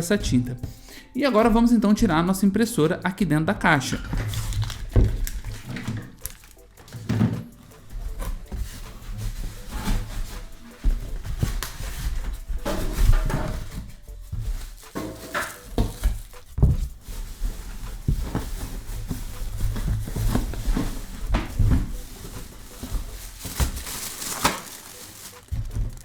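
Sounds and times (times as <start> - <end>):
packaging rustling and scraping: 3.8 - 26.0
knocks and thumps: 4.0 - 6.2, 6.8 - 26.0.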